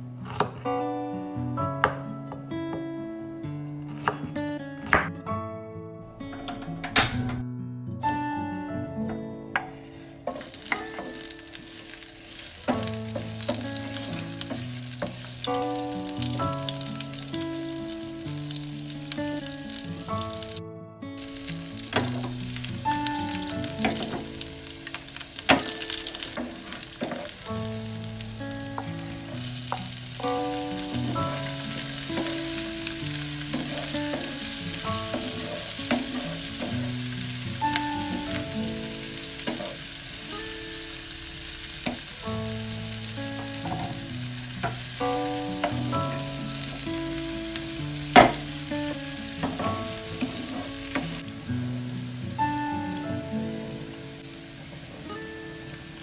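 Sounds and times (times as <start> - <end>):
soft melody: 0.0 - 56.0
vegetables sizzling in hot oil: 9.8 - 20.6, 21.2 - 56.0.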